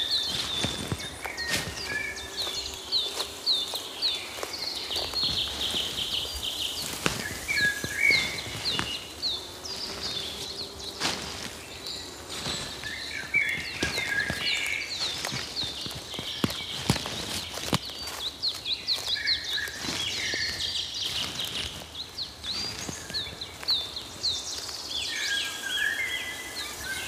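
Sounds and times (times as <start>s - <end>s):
footsteps on a path: 0.0s - 27.0s
songbirds chirping: 0.0s - 27.0s.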